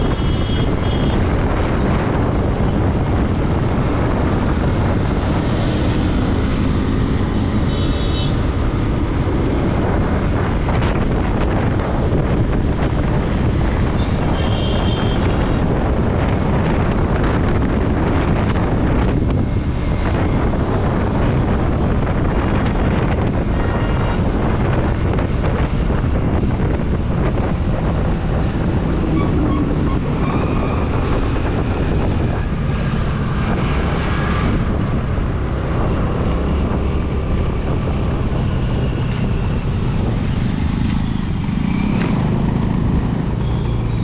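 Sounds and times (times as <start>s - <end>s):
road noise: 0.0s - 44.0s
wind buffeting microphone: 0.0s - 44.0s.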